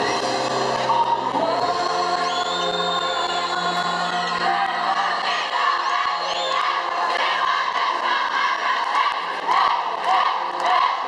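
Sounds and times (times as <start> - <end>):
background music: 0.0 - 11.0
crowd shouting and cheering: 0.0 - 11.0.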